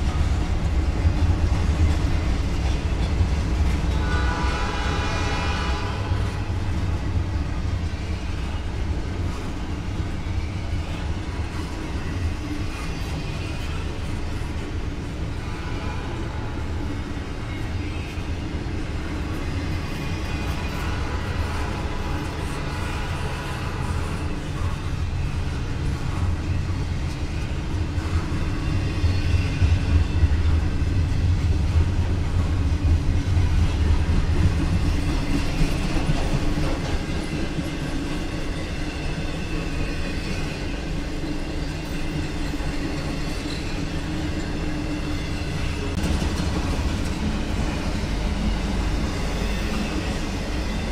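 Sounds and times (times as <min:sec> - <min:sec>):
freight train wheels rumbling on rails: 0:00.0 - 0:50.9.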